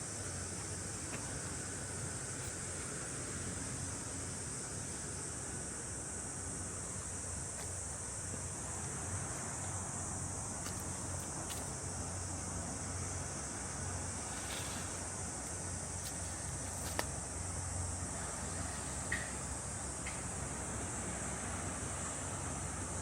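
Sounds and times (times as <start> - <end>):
cicadas buzzing: 0.0 - 23.0.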